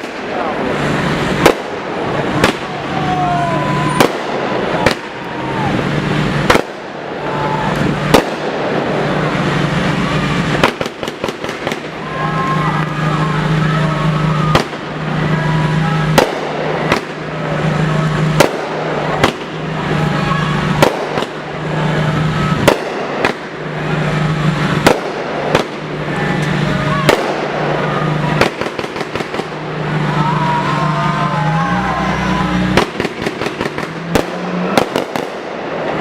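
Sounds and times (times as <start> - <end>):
firecracker cracks: 0.0 - 30.7, 32.5 - 36.0
crowd noise: 0.0 - 36.0
fireworks bangs: 0.0 - 36.0.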